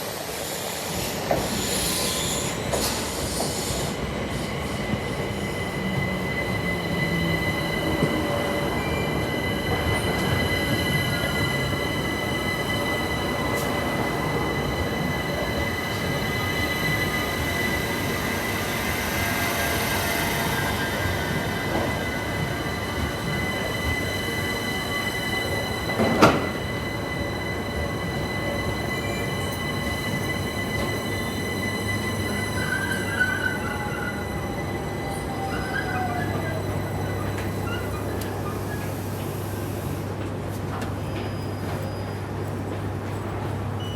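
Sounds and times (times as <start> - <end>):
train wheels rumbling on track: 0.0 - 43.9
high wheel squeal: 0.3 - 39.4.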